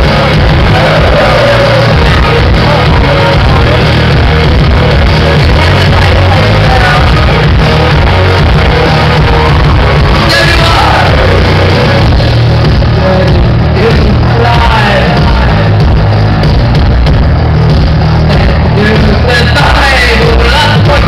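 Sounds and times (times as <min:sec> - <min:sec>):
live industrial rock band: 0:00.0 - 0:21.0.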